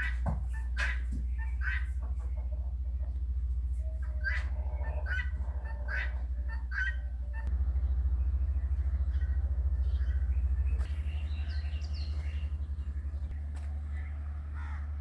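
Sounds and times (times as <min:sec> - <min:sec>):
low pulsing rumble: 0:01.2 - 0:15.0.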